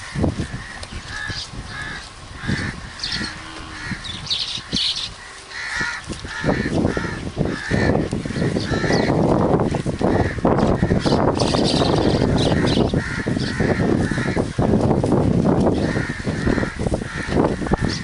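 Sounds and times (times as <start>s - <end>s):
crows cawing: 0.0s - 14.8s, 15.7s - 18.0s.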